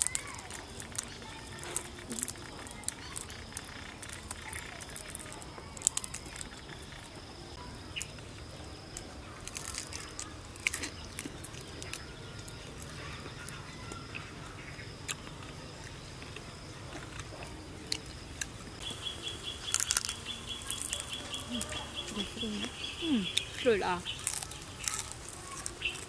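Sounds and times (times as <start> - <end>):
crunchy shells cracking and chewing: 0.0 - 26.0.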